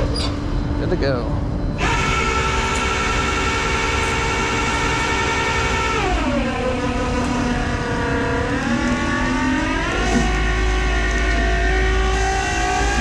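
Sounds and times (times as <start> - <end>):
tow truck engine revving: 1.8 - 13.0.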